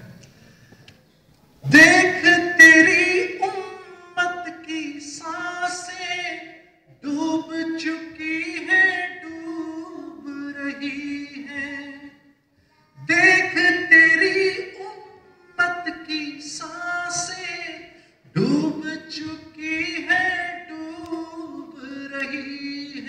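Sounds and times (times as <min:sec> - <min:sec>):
man singing unaccompanied: 0:01.6 - 0:12.4, 0:13.0 - 0:23.0.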